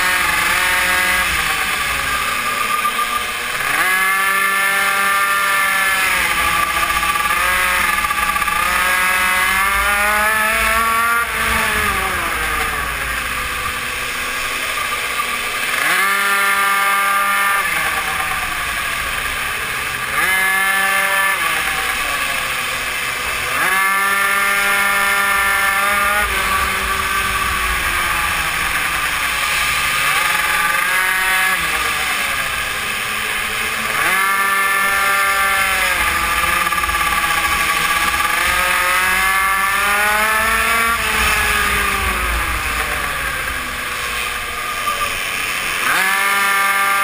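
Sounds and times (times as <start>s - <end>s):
mini moto engine revving: 0.0s - 47.0s.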